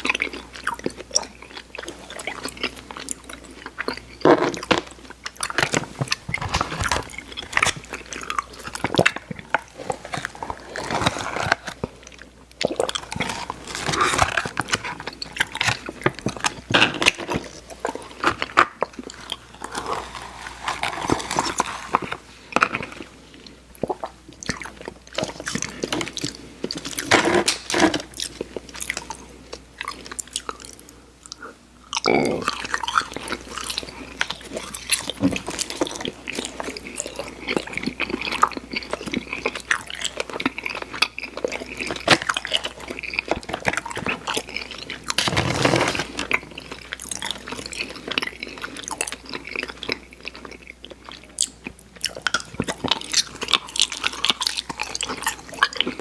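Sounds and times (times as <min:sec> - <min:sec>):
mouth chewing candy: 0:00.0 - 0:56.0.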